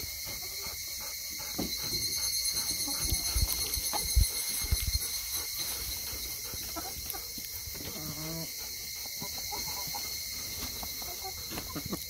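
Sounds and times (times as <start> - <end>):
chickens calling softly: 0.0 - 12.0
insects chorus: 0.0 - 12.0.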